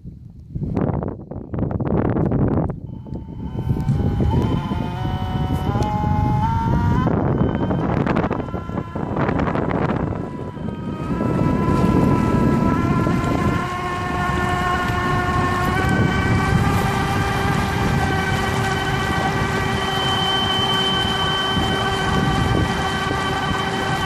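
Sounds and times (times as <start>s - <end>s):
wind buffeting microphone: 0.0s - 24.0s
electric outboard motor whine: 2.4s - 24.0s.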